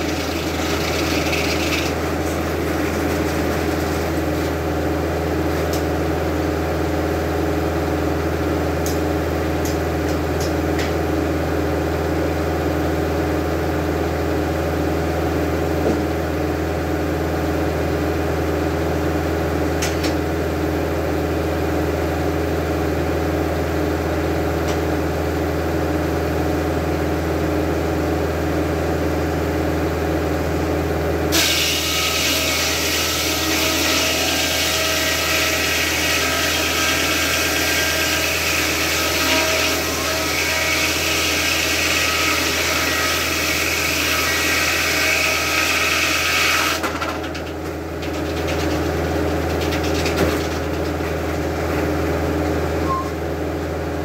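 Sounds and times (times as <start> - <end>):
sawmill humming: 0.0 - 54.0.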